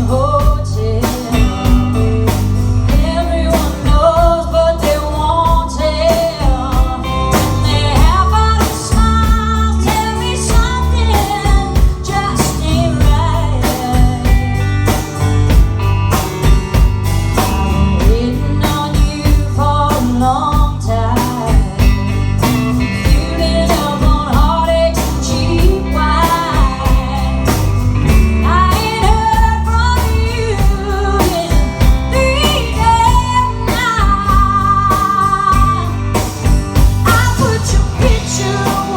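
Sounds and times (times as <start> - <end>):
person singing: 0.0 - 14.6, 17.4 - 22.1, 23.0 - 27.6, 28.4 - 36.2, 37.0 - 38.9
drum kit beat: 0.0 - 38.9
guitar: 0.0 - 38.9.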